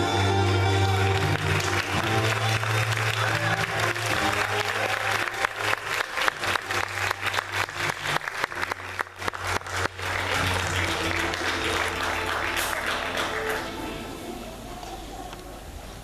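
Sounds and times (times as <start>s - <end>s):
audience applauding: 0.0s - 14.2s
backing music low notes: 0.0s - 14.8s.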